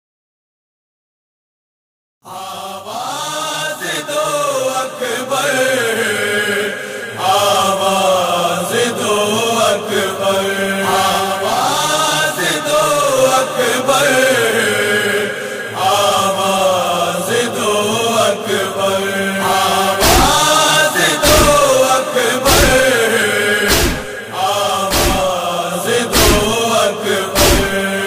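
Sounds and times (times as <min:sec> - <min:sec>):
man singing a lament: 0:02.3 - 0:28.0.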